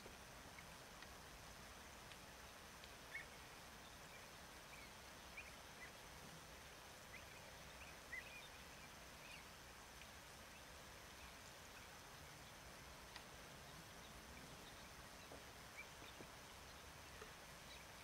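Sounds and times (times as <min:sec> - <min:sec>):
steady background hiss: 0:00.0 - 0:18.0
faint bird chirps: 0:02.4 - 0:18.0.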